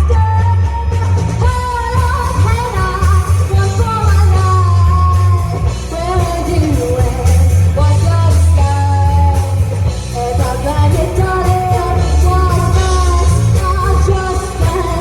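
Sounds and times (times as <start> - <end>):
live pop-rock band: 0.0 - 15.0
steady bass: 0.0 - 15.0.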